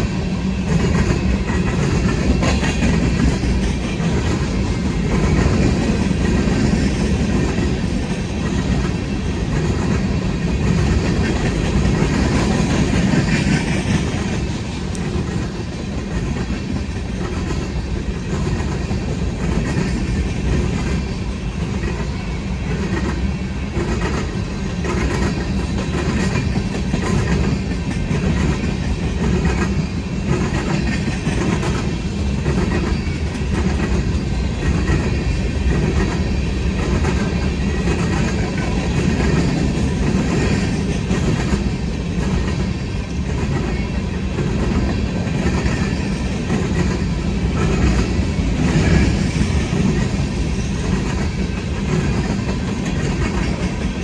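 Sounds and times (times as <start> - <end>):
train wheels rumbling on rail: 0.0 - 54.0
wheels clickety-clack on rail joints: 0.0 - 54.0.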